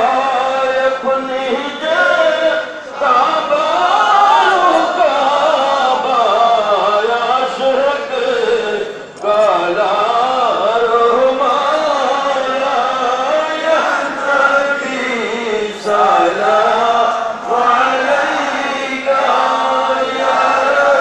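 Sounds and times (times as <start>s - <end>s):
men chanting together: 0.0s - 21.0s.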